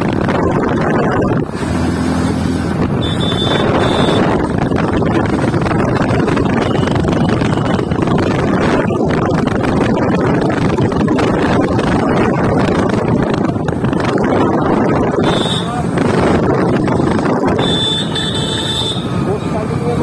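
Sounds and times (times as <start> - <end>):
wind buffeting microphone: 0.0 - 17.8
motorcycle engine droning: 0.0 - 20.0.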